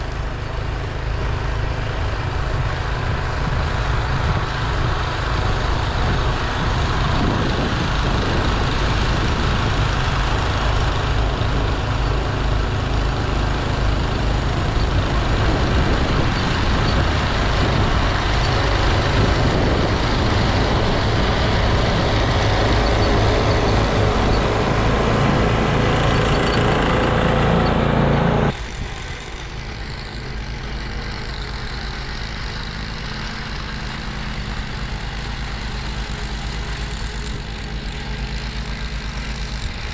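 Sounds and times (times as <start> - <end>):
snowblower running: 0.0 - 39.9.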